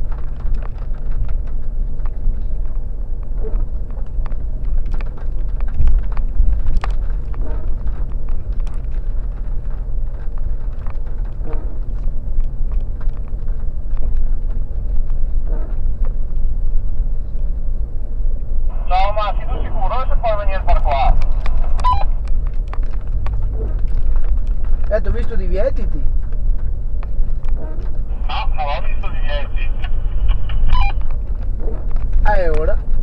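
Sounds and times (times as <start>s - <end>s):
off-road vehicle engine rumble: 0.0s - 33.0s.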